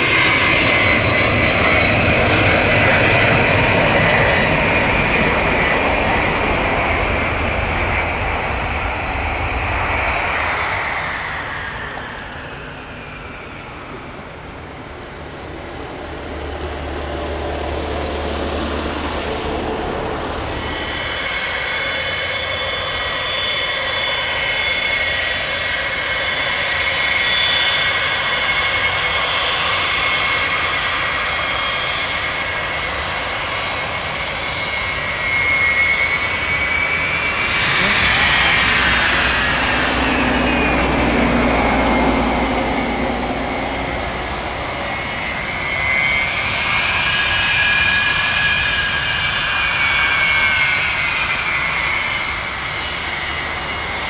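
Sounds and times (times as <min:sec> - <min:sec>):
jet aircraft taxiing: 0:00.0 - 0:54.0.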